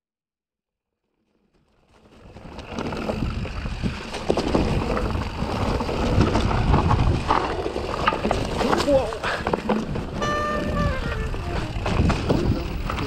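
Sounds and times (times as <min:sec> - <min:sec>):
bike tyres rolling over leaves: 0:01.1 - 0:13.0
bike knocks and rattles: 0:02.0 - 0:13.0
wind buffeting microphone: 0:02.3 - 0:13.0.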